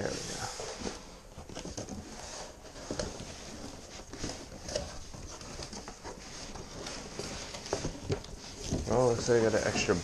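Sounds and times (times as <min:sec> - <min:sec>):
cardboard box rustling and scraping: 0:00.0 - 0:10.0.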